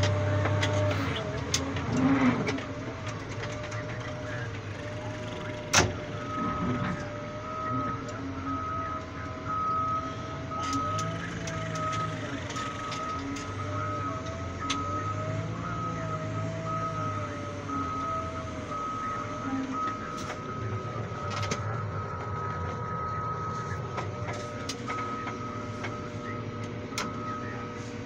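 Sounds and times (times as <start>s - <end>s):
diesel engine running: 0.0s - 28.0s
reverse alarm beeping: 3.6s - 28.0s.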